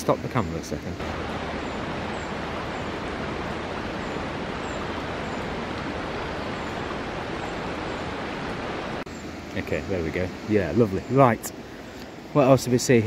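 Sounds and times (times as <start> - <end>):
river water rushing: 0.6 - 13.0.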